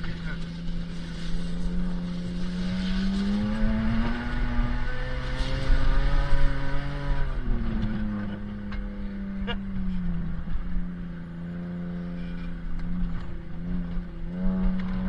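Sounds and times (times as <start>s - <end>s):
truck engine: 0.0s - 15.0s.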